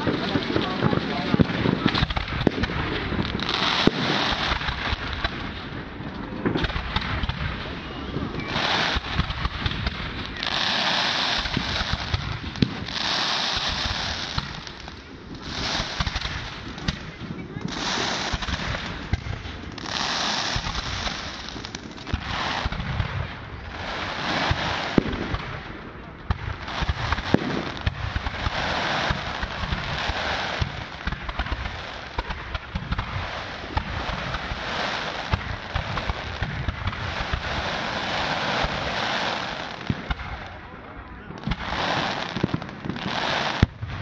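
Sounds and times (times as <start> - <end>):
firework bangs: 0.0 - 44.0
firework crackling: 0.0 - 44.0.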